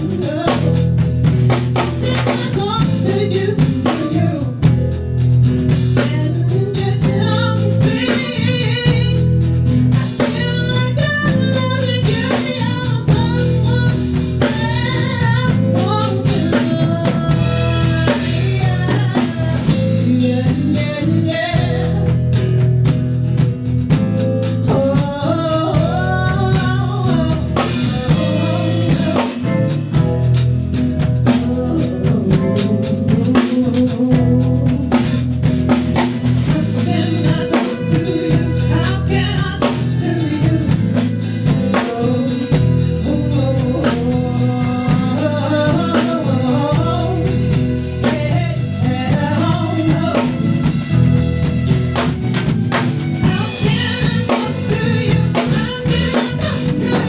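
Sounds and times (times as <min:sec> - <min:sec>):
blues-rock band playing: 0:00.0 - 0:57.0
woman singing: 0:00.0 - 0:57.0.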